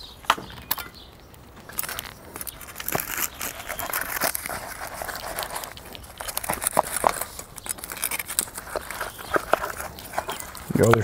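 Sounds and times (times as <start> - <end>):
crisp skin crackling under knife: 0.1 - 11.0.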